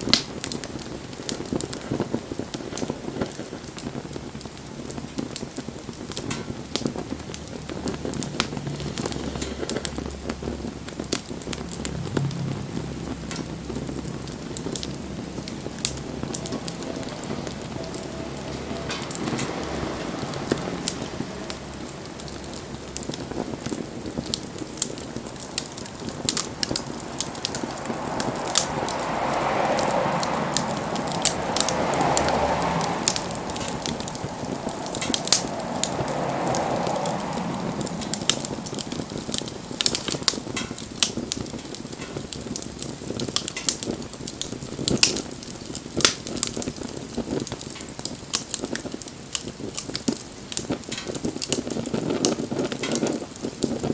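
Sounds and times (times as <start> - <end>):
rushing hiss: 0.0 - 43.3
campfire crackling and popping: 0.0 - 53.9.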